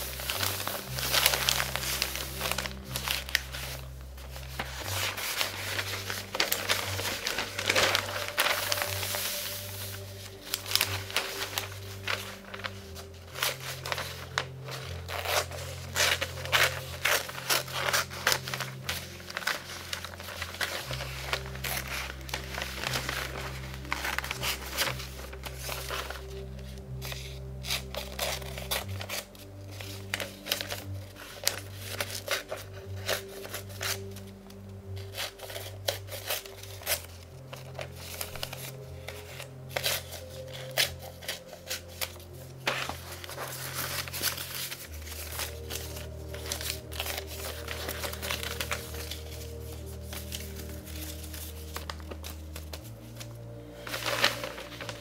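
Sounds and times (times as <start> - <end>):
scissors cutting paper: 0.0 - 34.3, 35.0 - 53.3
newspaper rustling and crinkling: 0.0 - 55.0
soft background music: 0.0 - 55.0.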